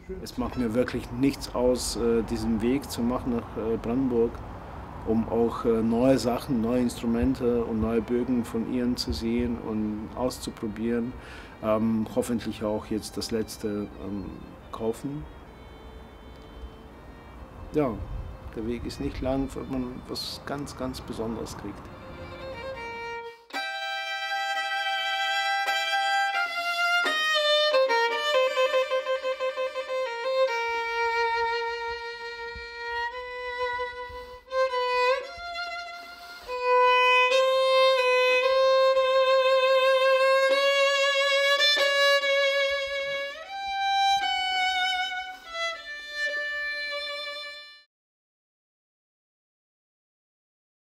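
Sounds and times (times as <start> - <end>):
solo violin slow melody: 0.0 - 47.9.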